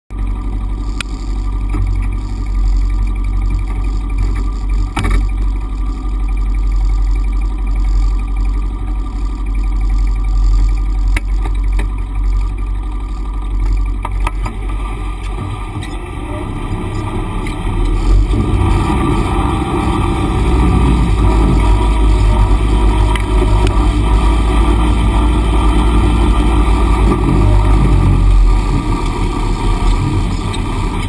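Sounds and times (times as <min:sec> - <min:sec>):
engine idling: 0:00.1 - 0:31.0.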